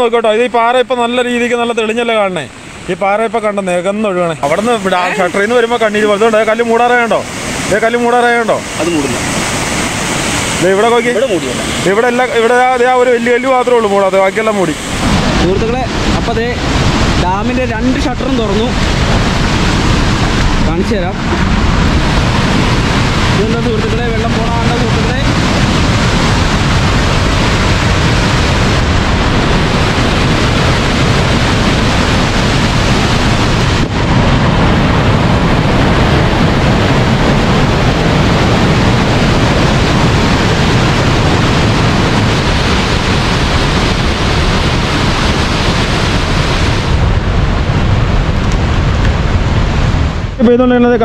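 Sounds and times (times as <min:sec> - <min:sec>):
water rushing down spillway: 0:00.0 - 0:51.0.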